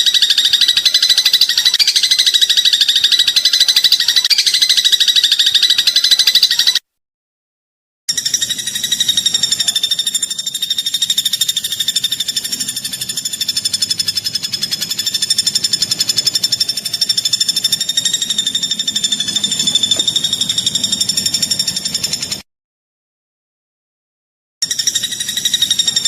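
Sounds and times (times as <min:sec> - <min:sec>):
cricket chirping trill: 0:00.0 - 0:06.8, 0:08.1 - 0:22.4, 0:24.6 - 0:26.0.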